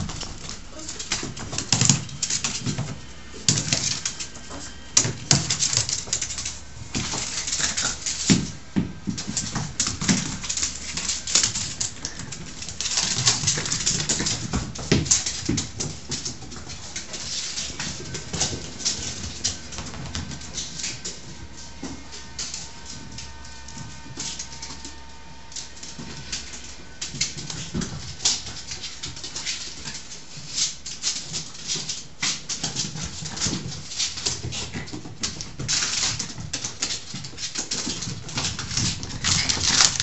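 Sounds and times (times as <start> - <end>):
dog claws clicking on hardwood floor: 0.0 - 24.9, 25.5 - 40.0.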